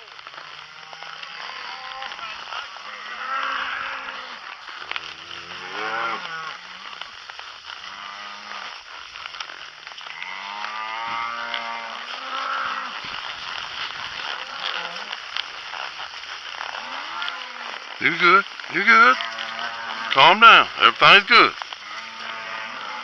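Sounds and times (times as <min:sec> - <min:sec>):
cows mooing: 0:00.2 - 0:23.0.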